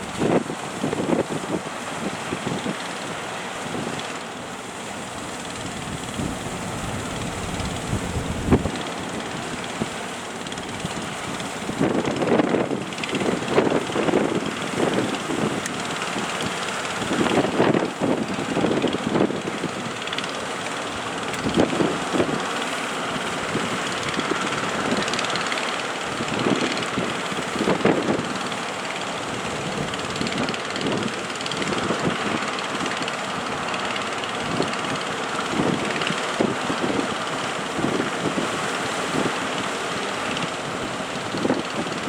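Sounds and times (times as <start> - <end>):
boat engines droning: 0.0 - 42.0
wind buffeting microphone: 0.0 - 42.0.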